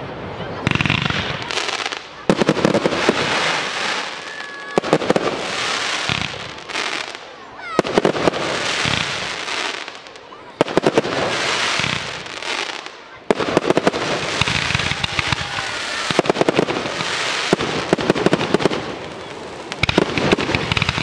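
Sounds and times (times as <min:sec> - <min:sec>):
fireworks crackling and banging: 0:00.2 - 0:21.0.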